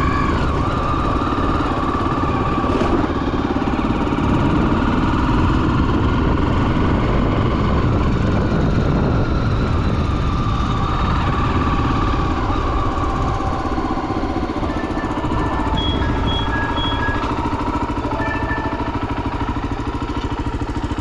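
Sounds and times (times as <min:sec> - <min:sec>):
wind and road noise: 0:00.0 - 0:18.0
motorcycle engine running: 0:00.0 - 0:21.0.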